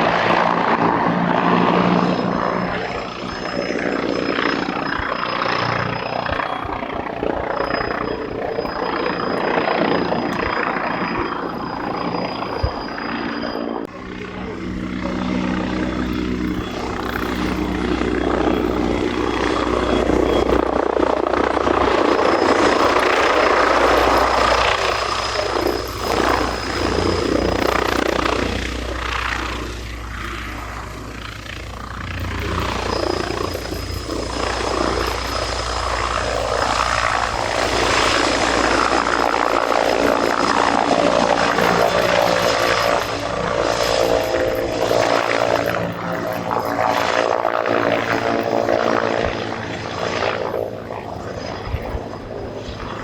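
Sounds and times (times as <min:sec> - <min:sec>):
helicopter rotor and turbine: 0:00.0 - 0:53.0
thin high whine: 0:00.0 - 0:53.0.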